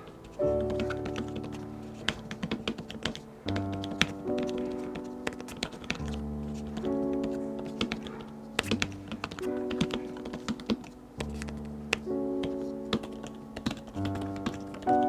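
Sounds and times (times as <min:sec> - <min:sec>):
typing on keyboard: 0:00.0 - 0:15.0.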